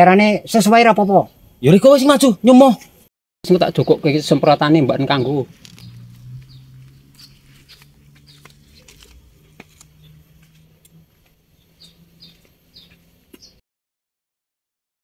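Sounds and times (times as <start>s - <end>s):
bird chirping: 0.2s - 13.6s.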